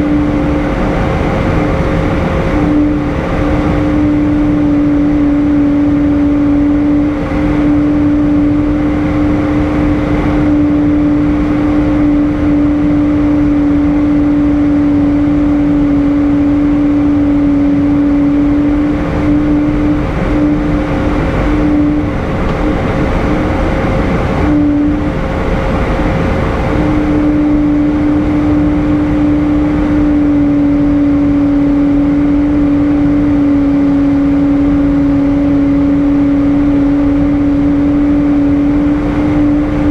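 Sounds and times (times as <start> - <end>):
constant hum: 0.0 - 39.9
jet engine roar and rushing air: 0.0 - 39.9.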